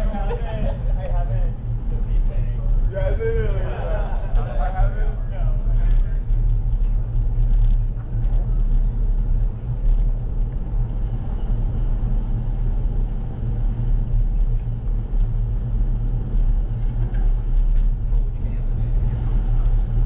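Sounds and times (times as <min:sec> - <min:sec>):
road noise: 0:00.0 - 0:20.0
wind rumble: 0:00.0 - 0:20.0.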